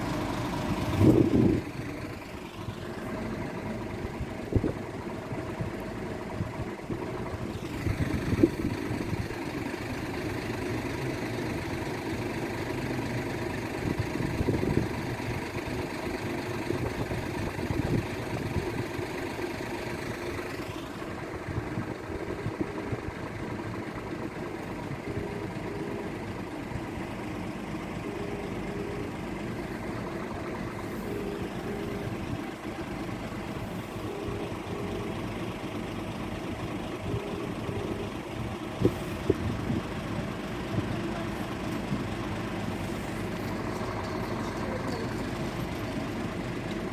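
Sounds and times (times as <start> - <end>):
vehicle idling hum: 0.0 - 46.9.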